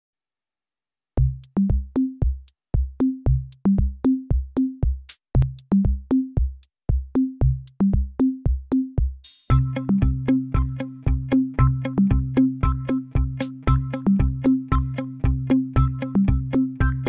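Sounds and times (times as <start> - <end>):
electronic music with beat and bass: 1.2 - 17.0.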